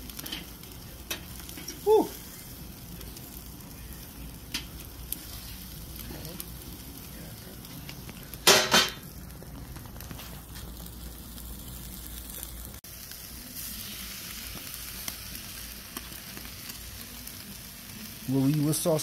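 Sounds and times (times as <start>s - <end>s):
meat sizzling on a grill: 0.0s - 19.0s.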